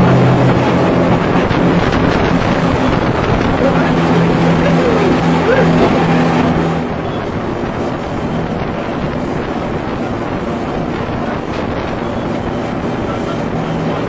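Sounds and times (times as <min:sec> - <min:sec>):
boat engine drone: 0:00.0 - 0:14.0
wind on microphone: 0:00.0 - 0:14.0.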